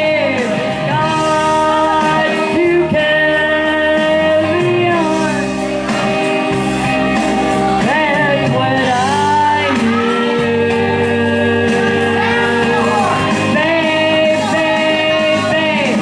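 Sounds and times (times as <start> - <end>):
recorded backing track: 0.0 - 16.0
woman singing karaoke: 0.0 - 16.0.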